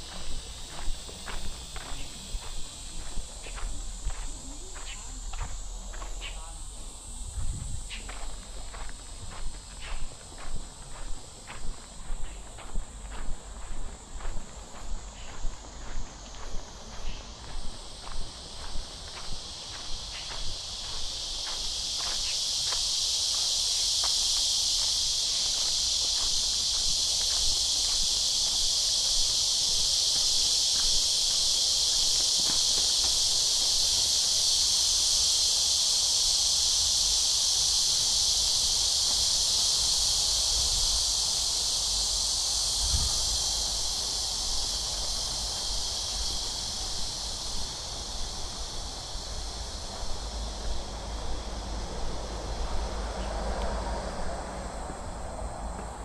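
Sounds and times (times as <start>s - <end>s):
cicadas buzzing: 0.0s - 56.0s
footsteps on garden path: 0.0s - 56.0s.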